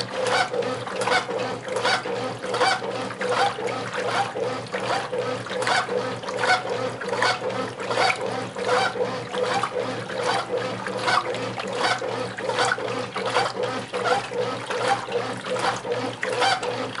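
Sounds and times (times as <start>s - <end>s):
washing machine motor humming: 0.0s - 17.0s
water sloshing: 0.0s - 17.0s.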